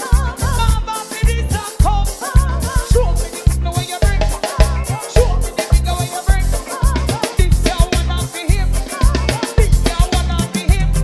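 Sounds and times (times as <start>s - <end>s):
drum kit played with sticks: 0.0s - 11.0s
person singing: 0.0s - 11.0s
recorded song with heavy bass: 0.0s - 11.0s.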